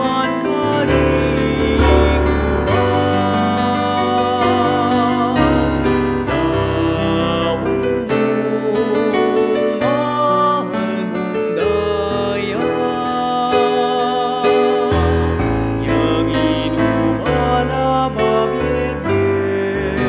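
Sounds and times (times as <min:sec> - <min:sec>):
keyboard accompaniment: 0:00.0 - 0:20.0
person singing a hymn: 0:00.0 - 0:20.0.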